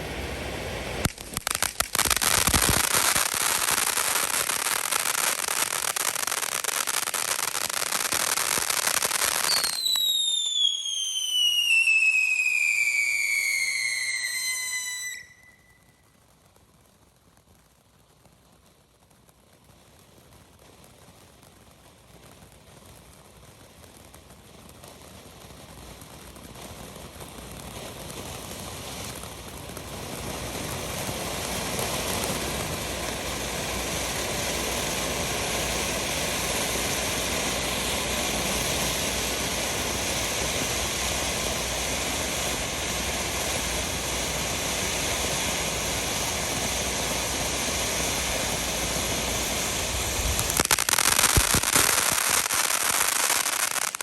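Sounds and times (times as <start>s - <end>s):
firework crackling: 0.0s - 54.0s
firework fountain hissing: 0.0s - 54.0s.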